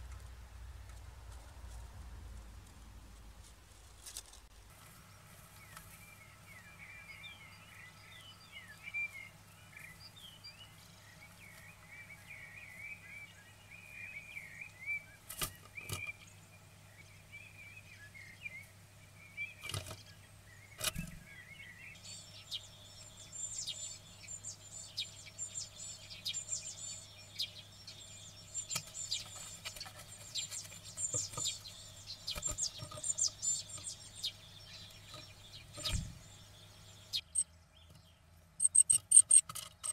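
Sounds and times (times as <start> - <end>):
songbird song and chirping: 4.4 - 39.9.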